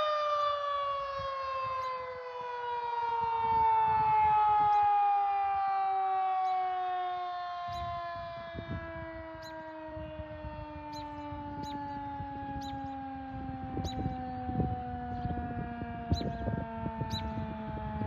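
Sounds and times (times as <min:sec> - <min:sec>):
warning siren winding down: 0:00.0 - 0:18.0.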